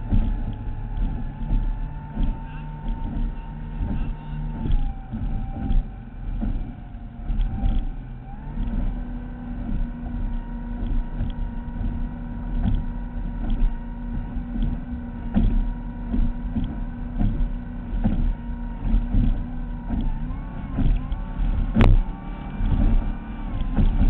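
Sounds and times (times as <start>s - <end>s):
boat engine running: 0.0s - 24.0s
irregular thumps: 0.0s - 24.0s
wind rumble: 0.0s - 24.0s.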